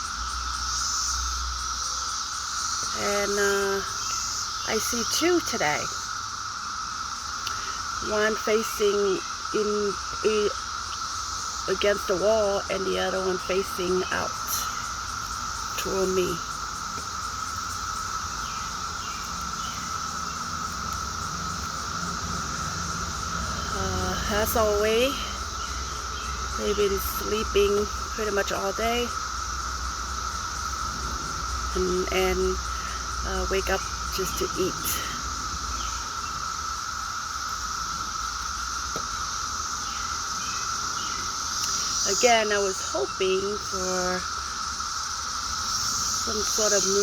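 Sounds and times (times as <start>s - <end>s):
insect chorus drone: 0.0s - 47.0s.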